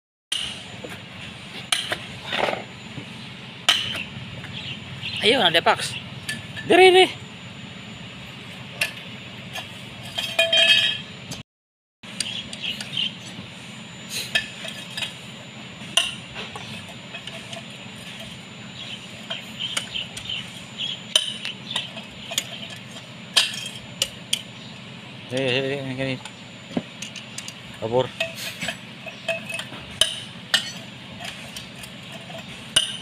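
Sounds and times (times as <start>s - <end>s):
low steady hum: 0.3s - 11.4s, 12.1s - 33.0s.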